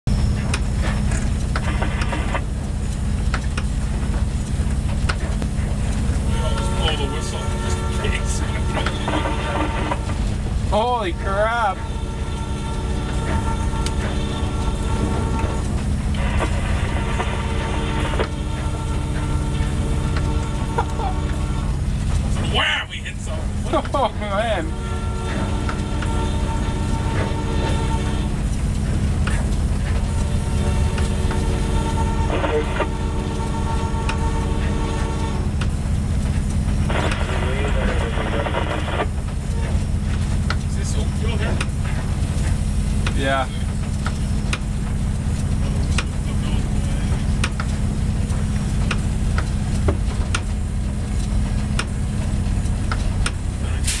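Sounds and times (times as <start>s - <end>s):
engine idling: 0.0s - 54.0s
freight train rumbling past: 0.1s - 54.0s.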